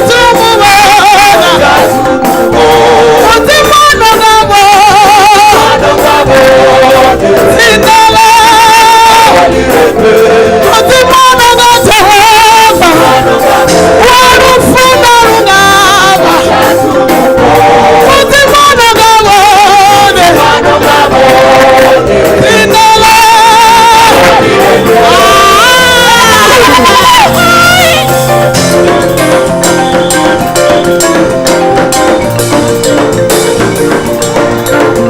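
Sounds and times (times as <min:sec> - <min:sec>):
musical backing: 0:00.0 - 0:35.0
voices singing long notes: 0:00.0 - 0:35.0.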